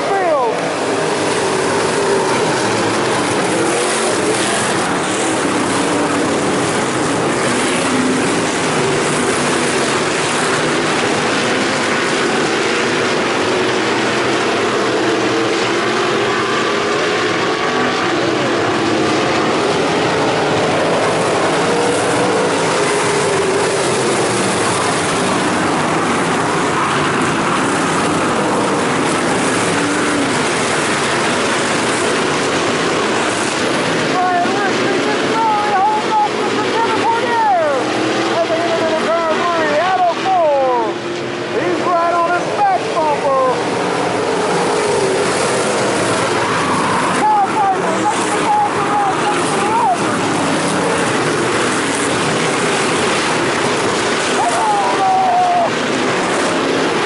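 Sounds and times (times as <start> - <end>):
race car engines roaring: 0.0 - 57.0.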